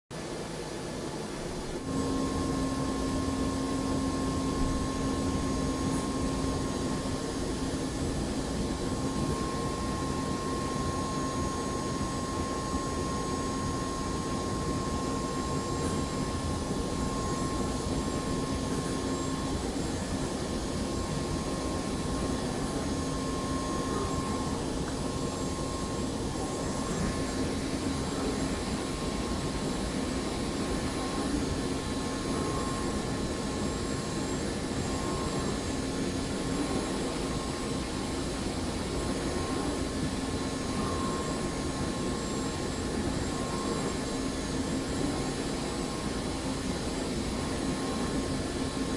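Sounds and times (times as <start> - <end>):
cnc machine humming: 0.2 - 48.9
high machine whines: 0.2 - 48.9.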